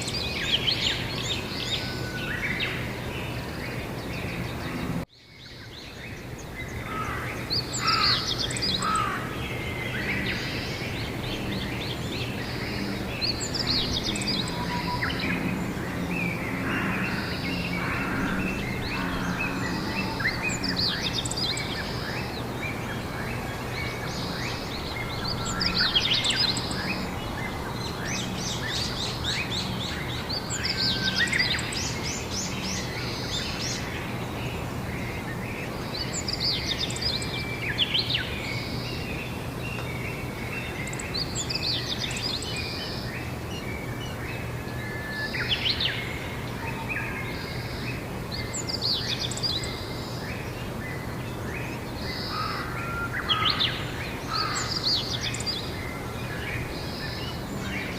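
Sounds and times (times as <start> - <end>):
birds singing and chirping: 0.0 - 57.9
trilled bird song: 0.0 - 57.9.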